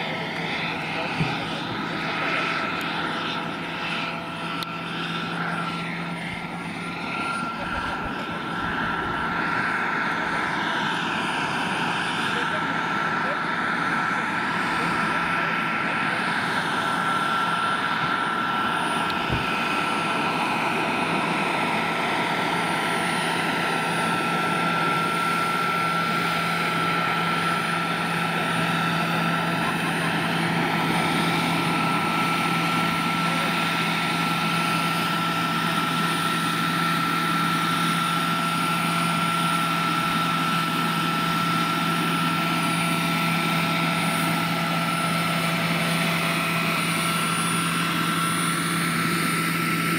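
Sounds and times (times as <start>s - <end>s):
helicopter main rotor whir: 0.0s - 49.9s
model gas turbine whine: 0.0s - 49.9s.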